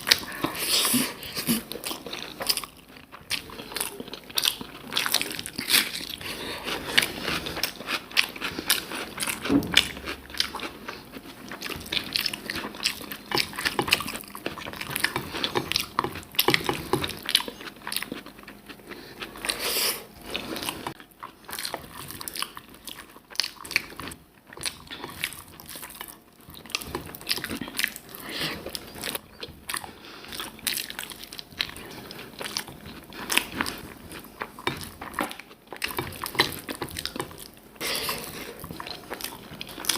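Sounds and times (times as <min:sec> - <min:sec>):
person chewing and crunching: 0:00.0 - 0:39.9.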